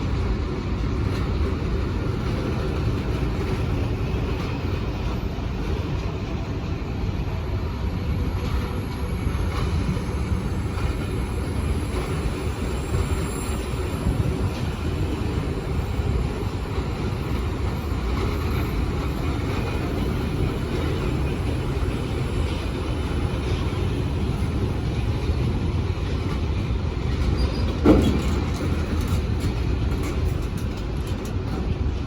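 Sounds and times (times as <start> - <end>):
train rumbling on tracks: 0.0 - 32.0.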